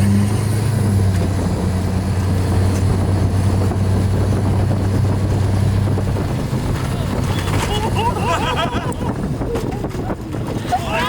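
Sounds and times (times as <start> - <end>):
low engine drone: 0.0 - 10.2
road and wind noise: 0.0 - 11.0.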